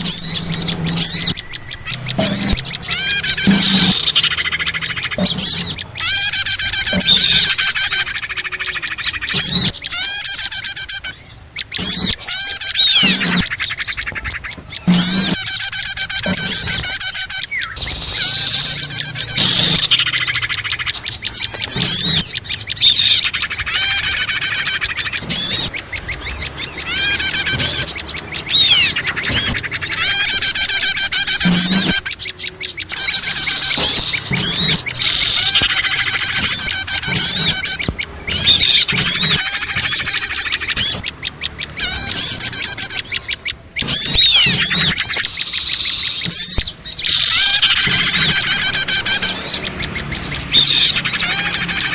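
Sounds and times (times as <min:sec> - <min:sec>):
small songbirds chirping and trilling: 0:00.0 - 0:51.9.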